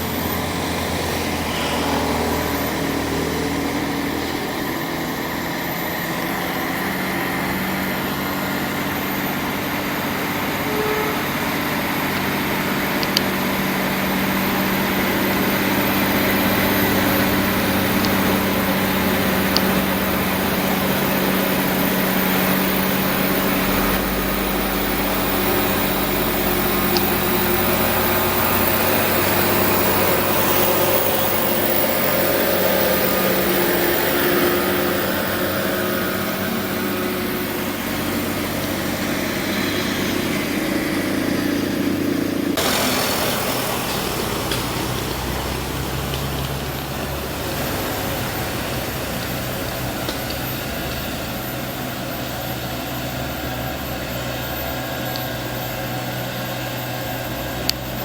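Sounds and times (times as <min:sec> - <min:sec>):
diesel truck engines under load: 0:00.0 - 0:58.0.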